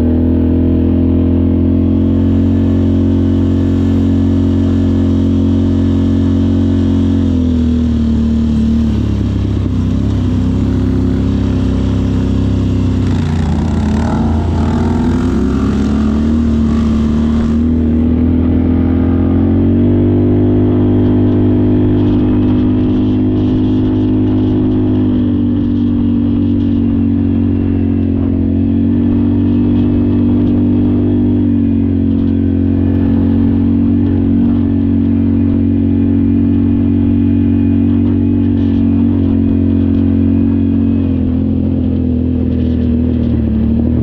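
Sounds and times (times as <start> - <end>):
off-road vehicle engine running: 0.0 - 44.0.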